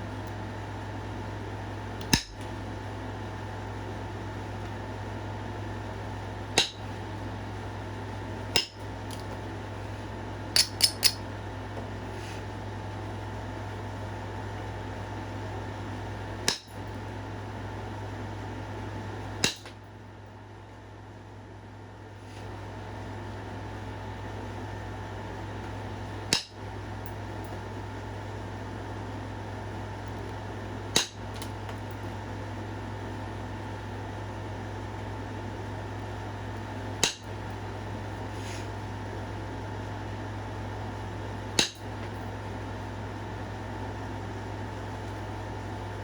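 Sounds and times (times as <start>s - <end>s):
fan-like hum: 0.0s - 46.0s.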